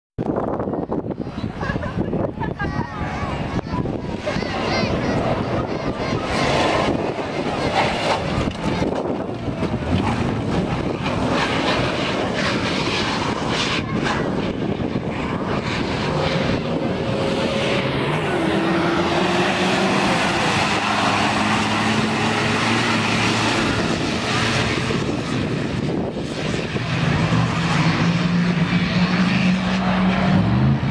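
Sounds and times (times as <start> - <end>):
off-road engines revving: 1.4 - 30.9.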